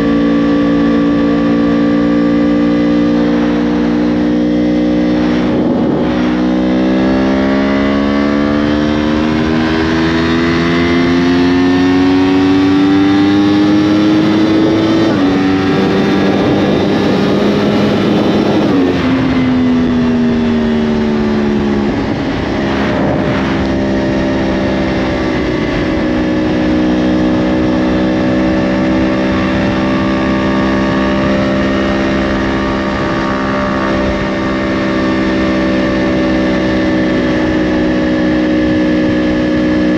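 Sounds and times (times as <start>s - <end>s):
motorcycle engine revving: 0.0s - 39.9s
rushing wind noise: 0.0s - 39.9s.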